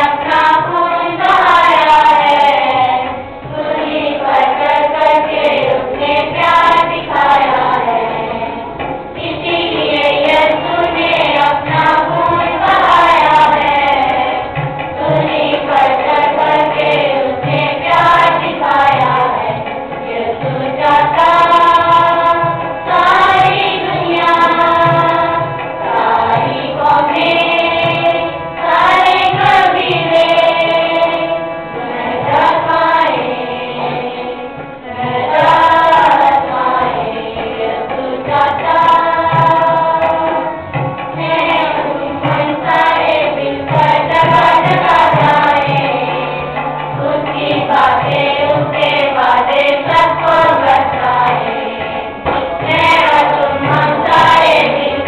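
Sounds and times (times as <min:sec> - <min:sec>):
girls singing together: 0:00.0 - 0:55.0.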